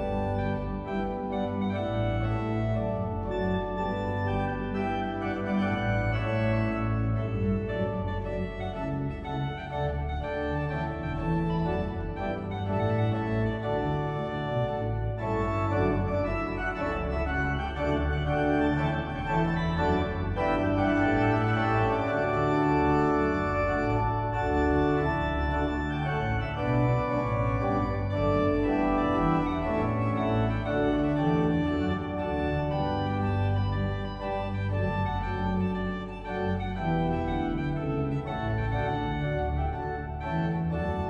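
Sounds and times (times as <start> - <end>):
pipe organ playing chords: 0.0 - 41.0.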